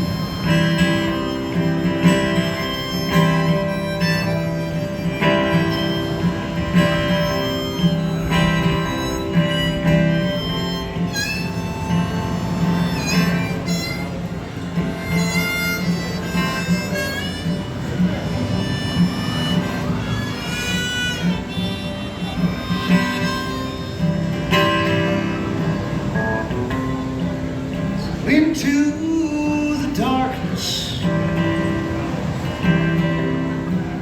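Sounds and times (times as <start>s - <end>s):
country band instrumental: 0.0s - 34.0s.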